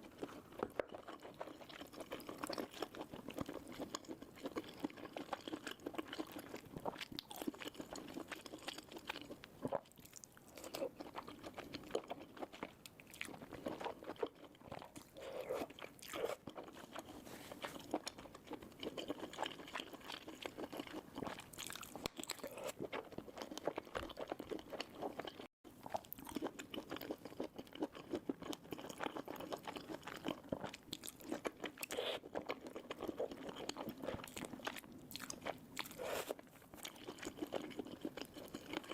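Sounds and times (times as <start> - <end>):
crunchy food chewing: 0.0 - 38.9.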